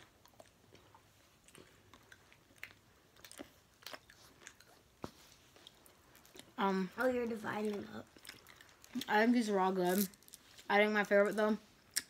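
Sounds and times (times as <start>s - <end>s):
chewing with small crunches: 0.0s - 10.7s.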